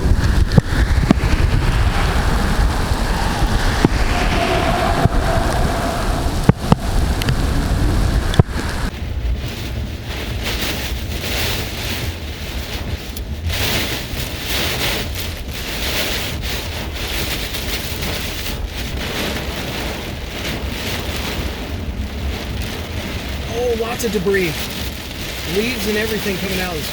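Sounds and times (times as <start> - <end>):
gusting wind: 0.0 - 26.9
heavy rain: 0.0 - 26.9
wind buffeting microphone: 0.0 - 26.9.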